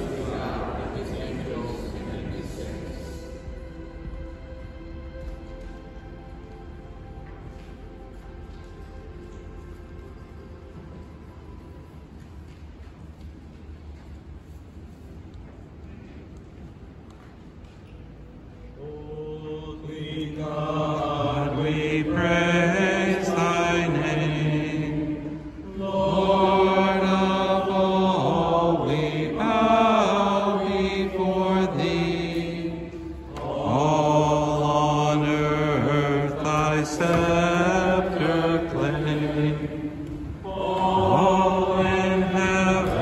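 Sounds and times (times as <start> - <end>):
low voices singing a hymn: 0.0 - 12.2, 18.6 - 43.0.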